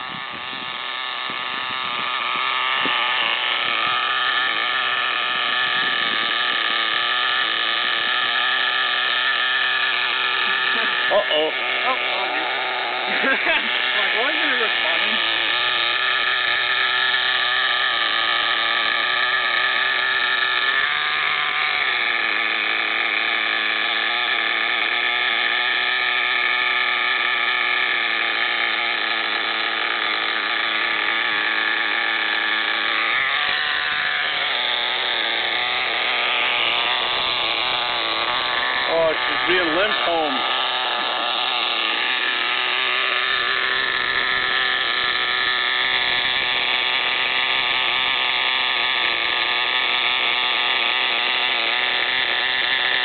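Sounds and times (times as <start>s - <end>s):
small engine idling high buzz: 0.0s - 53.0s.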